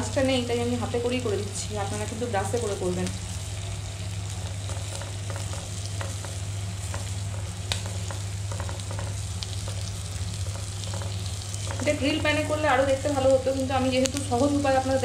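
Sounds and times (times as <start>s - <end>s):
butter crackling and popping: 0.0s - 15.0s
chicken sizzling in frying pan: 0.0s - 15.0s
steady low hum: 0.0s - 15.0s.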